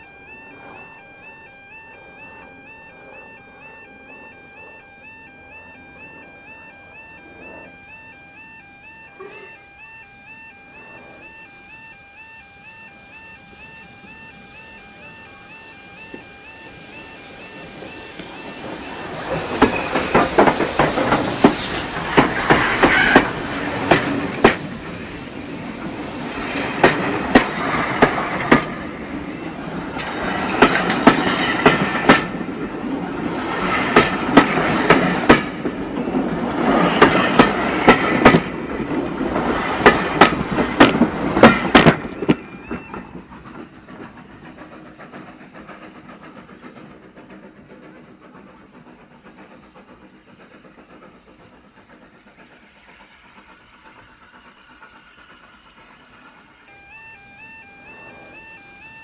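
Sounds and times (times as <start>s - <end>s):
train wheels rumbling and clicking: 0.0s - 59.0s.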